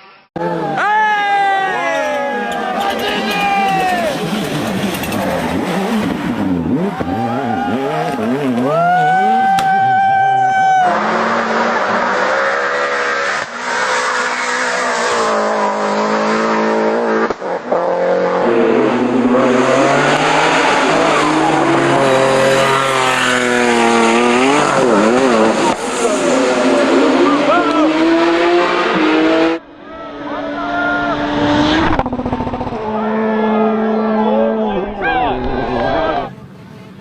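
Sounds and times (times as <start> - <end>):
rally car engines revving: 1.8 - 37.0.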